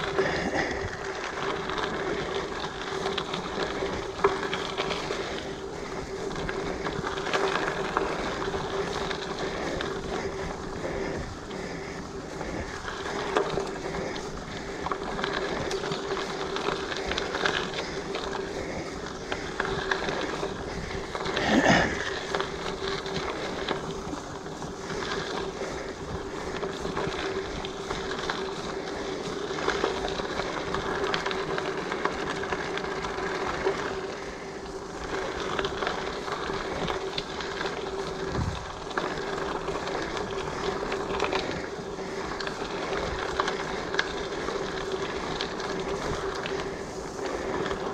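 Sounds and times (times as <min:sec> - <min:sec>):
bike tyre and frame rattle: 0:00.0 - 0:47.9.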